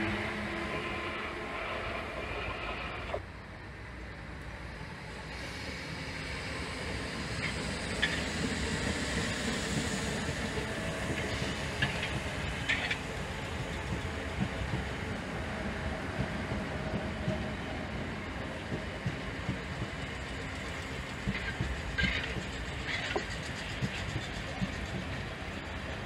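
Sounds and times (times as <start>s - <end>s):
train wheels rumbling on rails: 0.0s - 3.2s, 3.9s - 26.0s.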